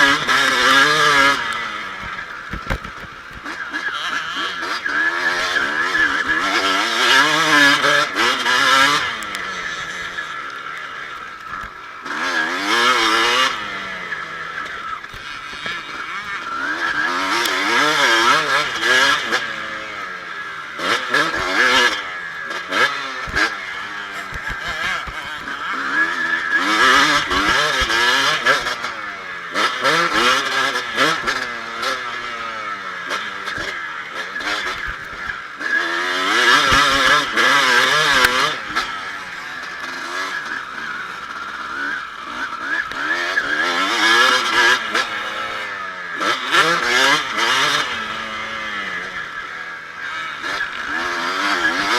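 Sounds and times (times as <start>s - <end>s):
motocross engine revving: 0.0s - 51.9s.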